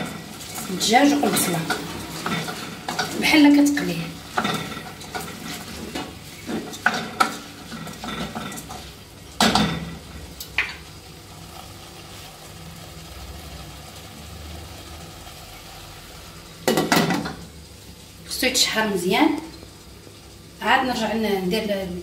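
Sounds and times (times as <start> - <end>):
low sizzle of rice in oil: 0.0 - 22.0.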